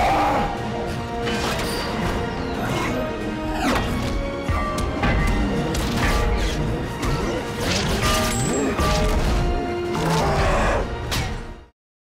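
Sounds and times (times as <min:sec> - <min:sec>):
action movie music: 0:00.0 - 0:11.7.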